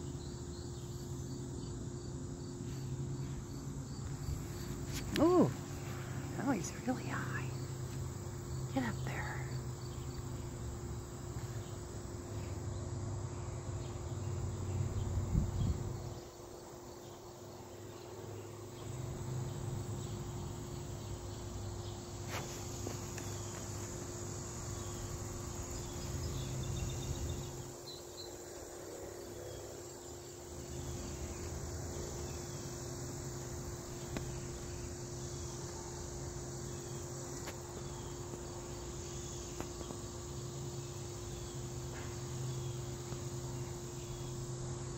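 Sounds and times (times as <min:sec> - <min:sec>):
faint steady hum: 0:00.0 - 0:44.9
insects chorus: 0:00.0 - 0:44.9.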